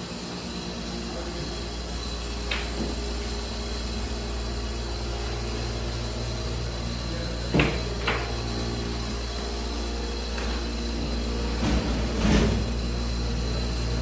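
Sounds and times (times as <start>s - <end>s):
steady low hum with hiss: 0.0s - 14.0s.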